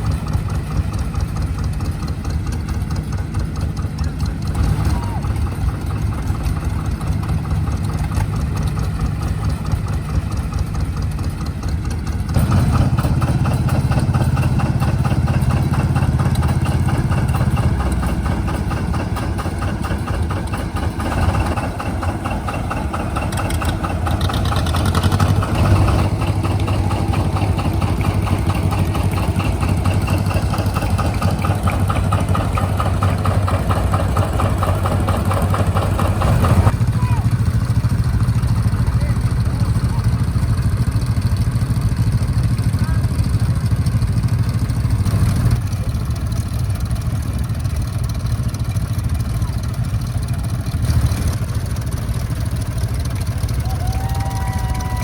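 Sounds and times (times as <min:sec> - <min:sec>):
tractor engines idling: 0:00.0 - 0:55.0.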